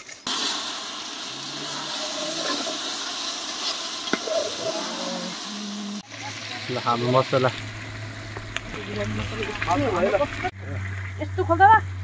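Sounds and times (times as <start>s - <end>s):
food sizzling in pot: 0.0s - 10.6s.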